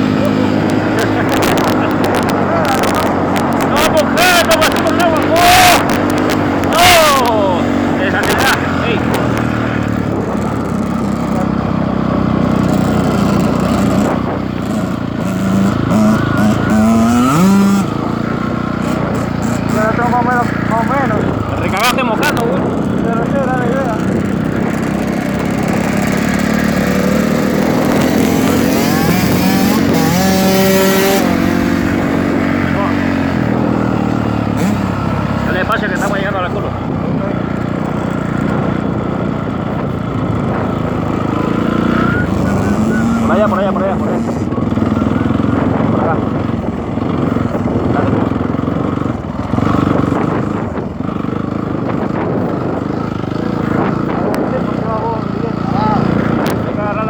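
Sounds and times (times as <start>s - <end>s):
dirt bike engine accelerating: 0.0s - 57.0s.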